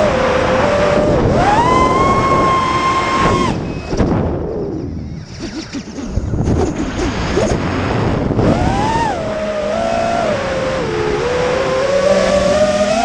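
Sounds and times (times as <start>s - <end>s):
drone motors whining: 0.0s - 7.6s, 8.4s - 13.0s
wind rumbling on microphone: 0.0s - 13.0s.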